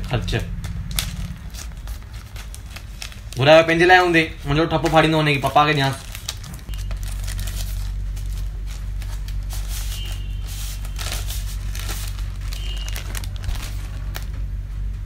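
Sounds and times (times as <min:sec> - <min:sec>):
plastic mailer tearing and crinkling: 0:00.0 - 0:14.6
steady low hum: 0:00.0 - 0:15.0.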